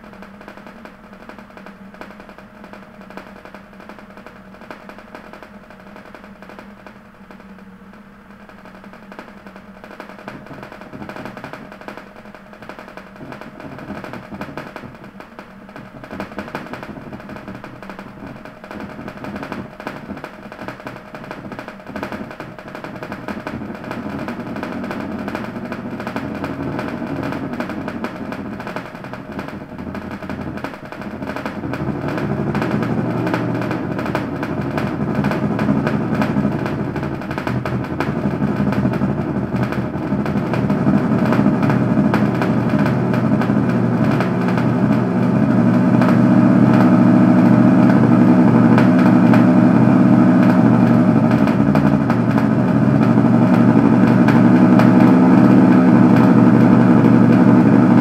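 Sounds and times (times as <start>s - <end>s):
fast percussive rattle: 8.4s - 58.0s.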